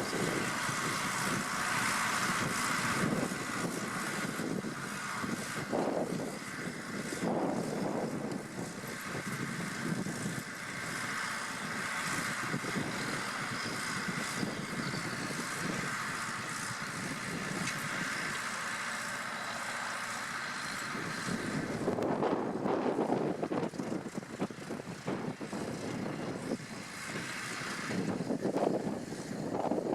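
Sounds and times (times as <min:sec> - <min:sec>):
tractor diesel engine running: 0:00.0 - 0:29.9.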